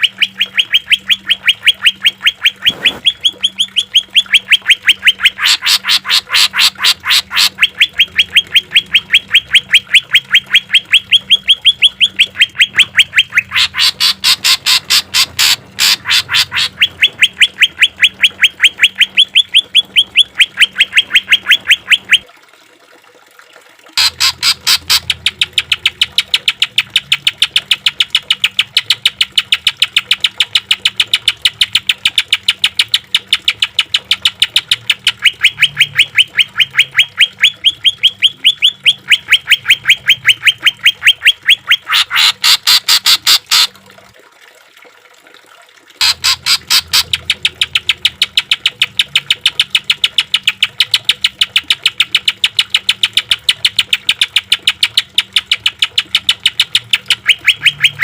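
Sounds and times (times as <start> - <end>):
bird rapid-fire song: 0.0 - 22.2, 24.0 - 43.7, 46.0 - 58.0.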